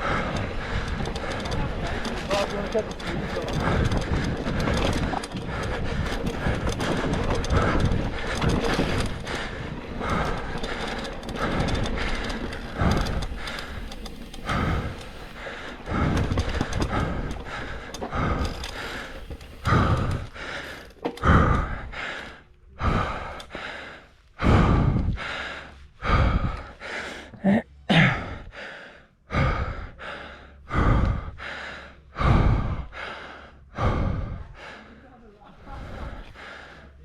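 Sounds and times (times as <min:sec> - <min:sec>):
person breathing hard: 0:00.0 - 0:37.0.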